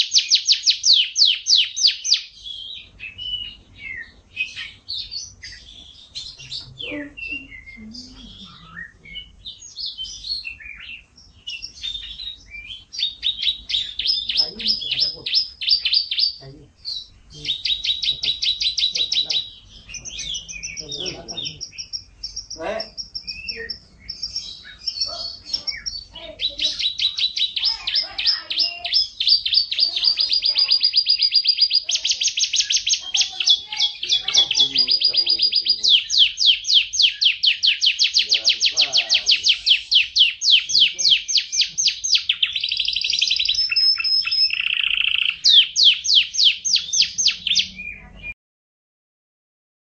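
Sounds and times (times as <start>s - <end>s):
canary singing trills: 0.0s - 48.4s.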